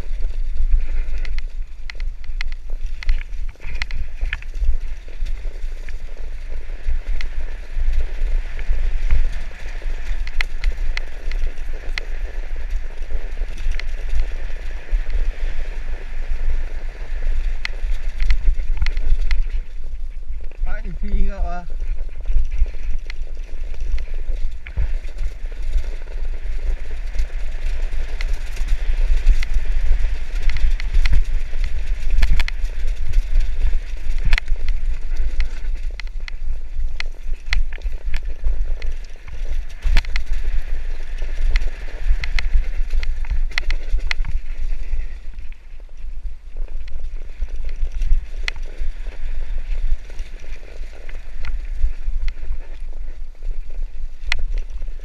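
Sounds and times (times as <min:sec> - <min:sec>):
bike rattling over rocks: 0:00.0 - 0:55.0
wind rumble on microphone: 0:00.0 - 0:55.0.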